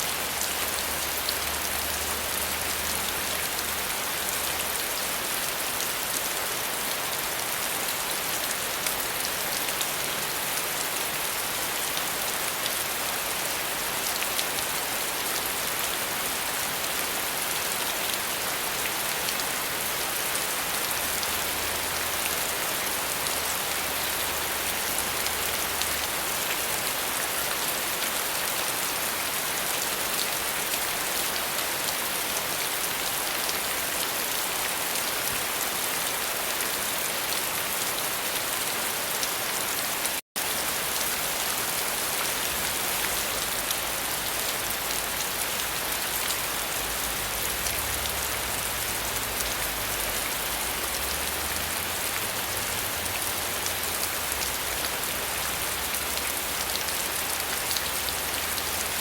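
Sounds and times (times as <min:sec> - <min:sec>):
dense rainfall: 0:00.0 - 0:59.0.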